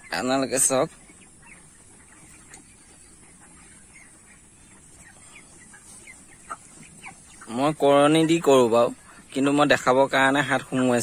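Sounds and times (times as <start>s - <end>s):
chickens calling faintly: 0.0s - 11.0s
high chirps and peeps: 0.0s - 11.0s.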